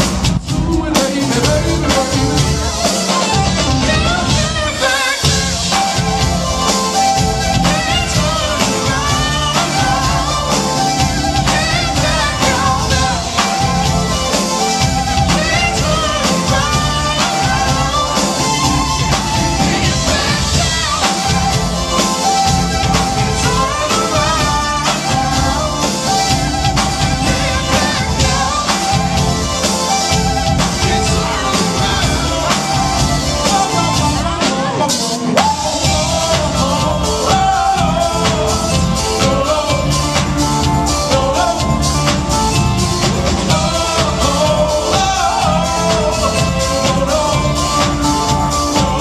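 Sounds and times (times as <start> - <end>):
man singing: 0.0 - 42.5, 43.4 - 49.0
bass: 0.0 - 49.0
drums: 0.0 - 49.0
electric and acoustic guitars: 0.0 - 49.0
keyboard: 0.0 - 49.0.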